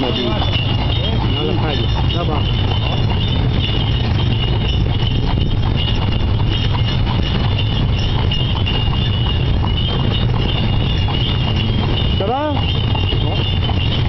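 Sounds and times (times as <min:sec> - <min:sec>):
carriage rolling rumble: 0:00.0 - 0:14.0
hooves clip-clopping on asphalt: 0:00.0 - 0:14.0
steady high ringing: 0:00.0 - 0:14.0.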